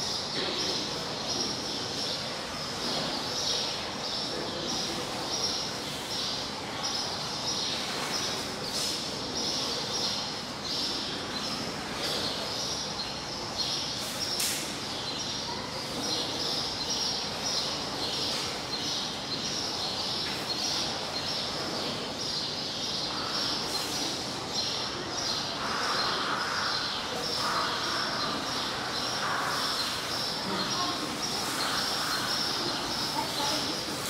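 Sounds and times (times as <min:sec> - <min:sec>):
small birds chirping: 0:00.0 - 0:34.0
steady background noise: 0:00.0 - 0:34.0.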